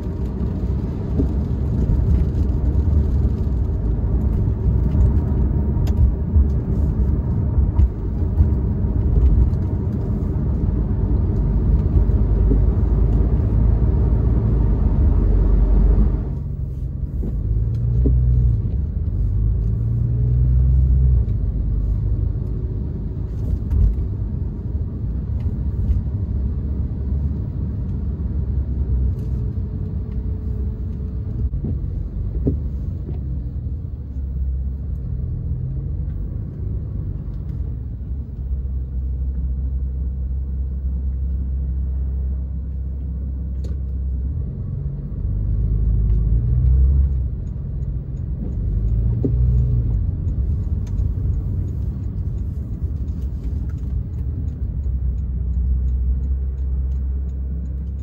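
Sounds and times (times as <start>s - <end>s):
car engine while driving: 0.0s - 58.0s
road rumble: 0.0s - 58.0s.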